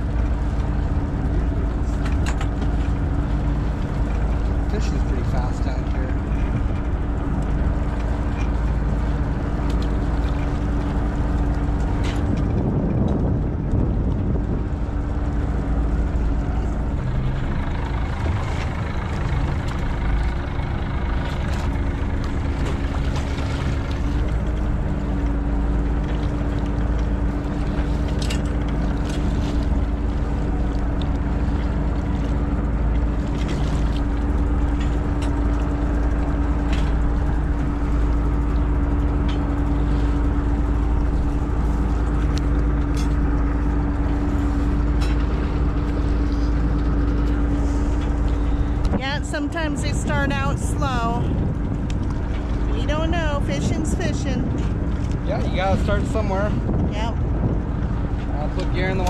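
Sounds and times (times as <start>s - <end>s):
boat engine drone: 0.0s - 59.0s.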